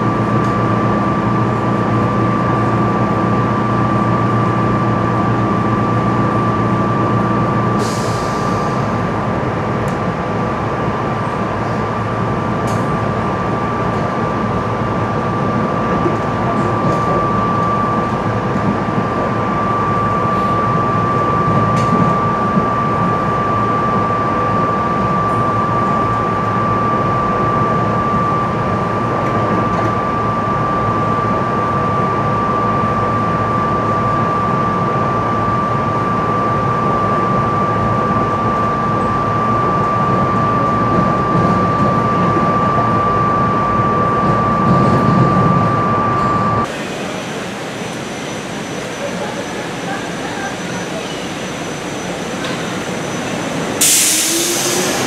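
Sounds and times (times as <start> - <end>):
high whine: 0.0 - 55.0
train wheels rumbling on track: 0.0 - 55.0.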